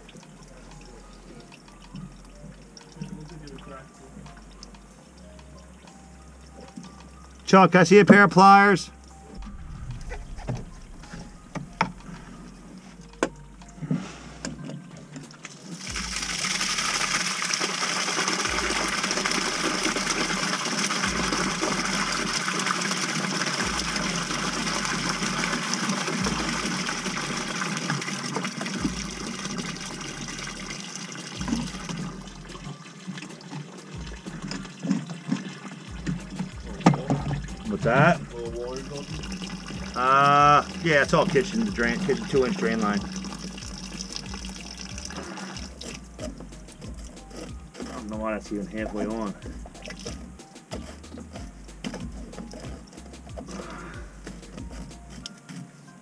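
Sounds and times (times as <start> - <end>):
water gushing onto dirt floor: 0.0 - 13.4, 14.5 - 56.0.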